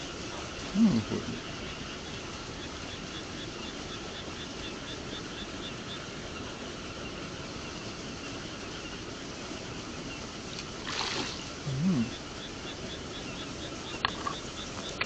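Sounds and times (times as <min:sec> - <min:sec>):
insect chirping: 0:00.0 - 0:15.0
outdoor background hiss: 0:00.0 - 0:15.0.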